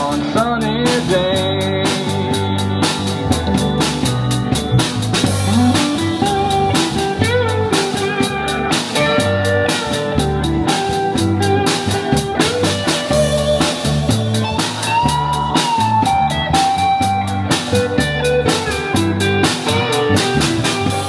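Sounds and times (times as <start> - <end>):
bass guitar: 0.0 - 21.0
drum kit beat: 0.0 - 21.0
lead guitar with bent notes: 0.0 - 21.0.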